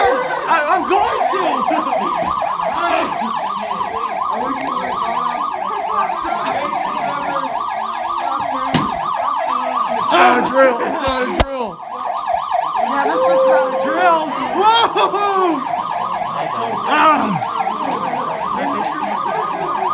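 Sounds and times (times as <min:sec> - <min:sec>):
fire alarm electronic whoop: 0:00.0 - 0:19.9.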